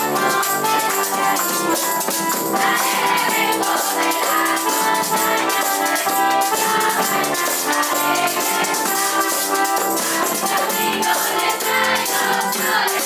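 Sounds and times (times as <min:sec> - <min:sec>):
electronic keyboard melody: 0:00.0 - 0:12.9
hand drums: 0:00.0 - 0:13.0
metal scraper rhythm: 0:00.0 - 0:13.0.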